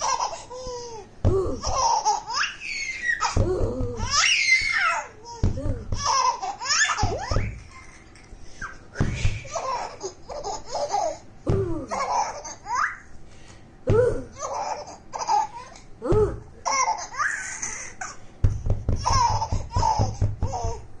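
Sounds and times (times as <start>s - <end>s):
baby laughing: 0.0s - 11.2s, 11.8s - 13.1s, 14.1s - 15.8s, 16.6s - 18.2s, 19.0s - 20.8s.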